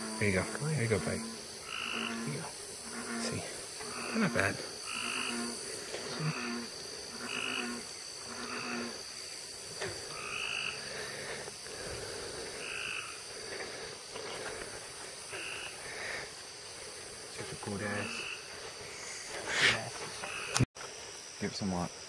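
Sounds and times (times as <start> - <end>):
frogs croaking: 0.0 - 22.0.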